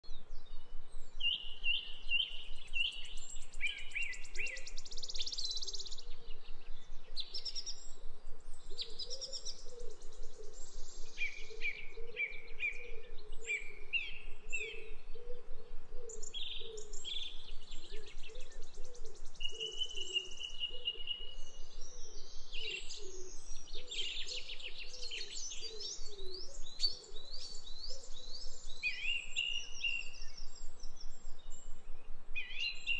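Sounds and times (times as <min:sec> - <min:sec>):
songbirds chirping and singing: 0:00.0 - 0:32.9.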